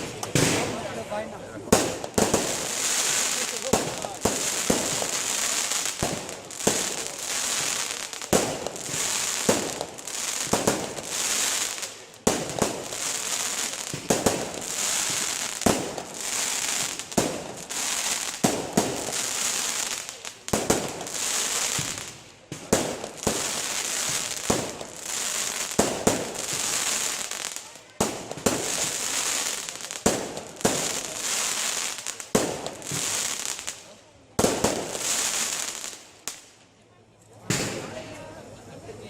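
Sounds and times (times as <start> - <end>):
fireworks crackling and hissing: 0.0 - 39.0.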